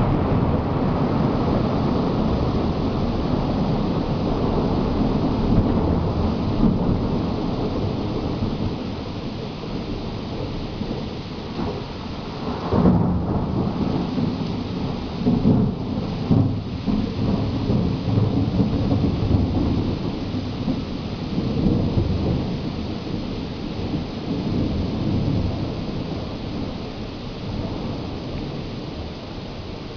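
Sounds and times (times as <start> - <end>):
steady rain: 0.0 - 29.9
thunder rolling: 0.0 - 29.9.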